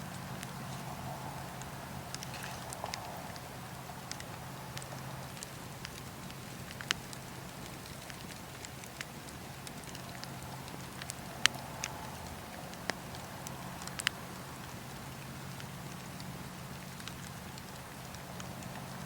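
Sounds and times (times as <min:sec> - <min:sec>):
wood crackling and popping: 0:00.0 - 0:19.0.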